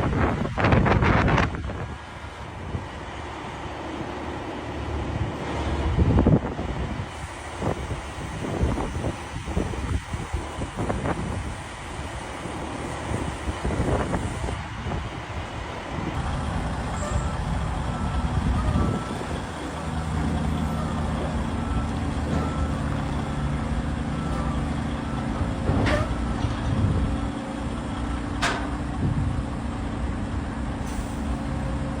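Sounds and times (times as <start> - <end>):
excavator diesel engine droning: 0.0 - 32.0.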